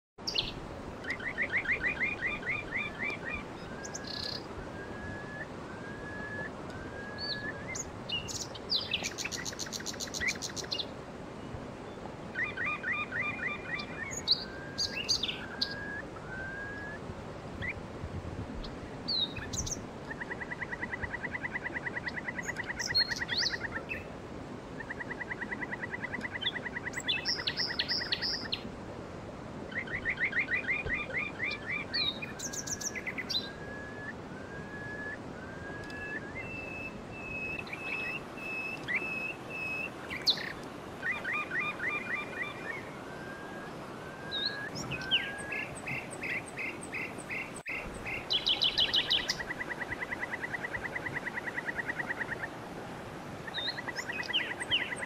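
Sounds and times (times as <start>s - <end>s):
songbirds singing trills: 0.2s - 28.7s, 29.5s - 55.0s.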